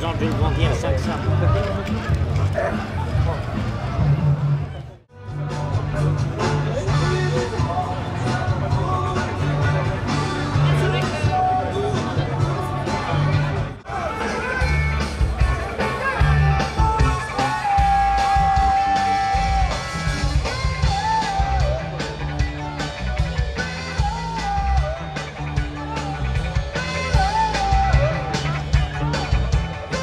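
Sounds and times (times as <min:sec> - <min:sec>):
rock music with guitar and bass: 0:03.6 - 0:30.0.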